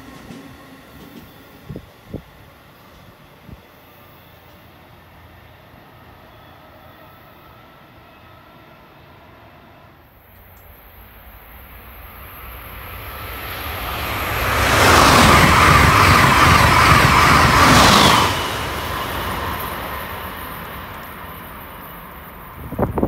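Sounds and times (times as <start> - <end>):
high-speed train rushing past: 0.0 - 23.0.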